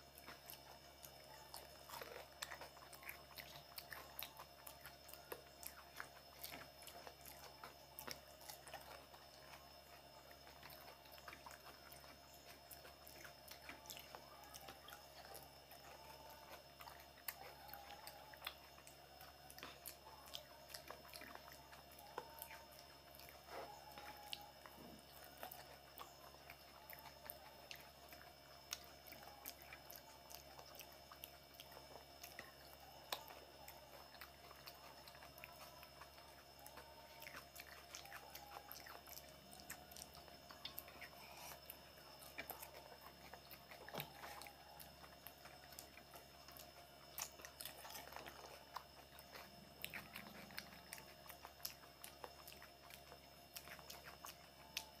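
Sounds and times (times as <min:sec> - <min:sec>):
chewing and crunching crisp shells: 0:00.0 - 0:55.0.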